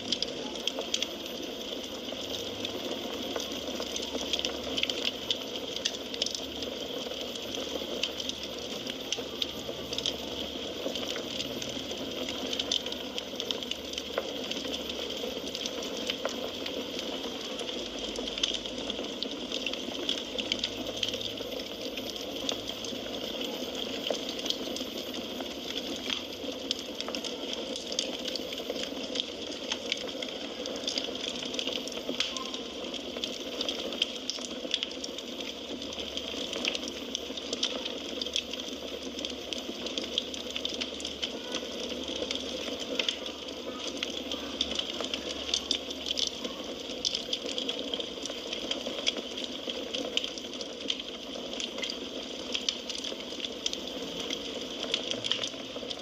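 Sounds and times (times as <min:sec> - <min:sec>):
firewood crackling in fireplace: 0:00.0 - 0:56.0.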